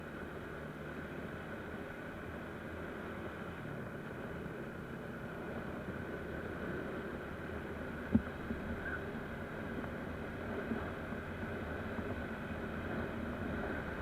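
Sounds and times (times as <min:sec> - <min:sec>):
constant rushing noise: 0:00.0 - 0:14.0.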